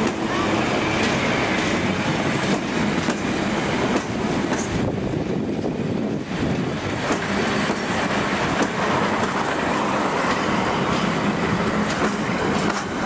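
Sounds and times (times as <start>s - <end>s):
train rolling rumble: 0.0s - 13.0s
wheels clacking over rail joints: 0.0s - 13.0s.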